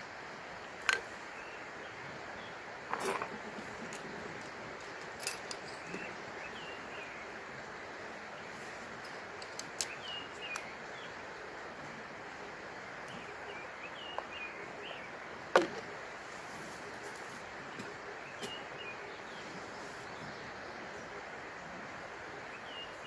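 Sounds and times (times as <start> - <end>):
rushing outdoor background: 0.0 - 23.0
small birds chirping: 0.0 - 23.0.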